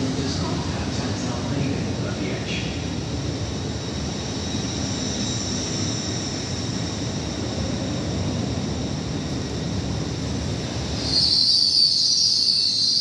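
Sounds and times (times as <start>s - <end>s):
train high whine: 0.0s - 13.0s
train wheels rumbling on rail: 0.0s - 13.0s.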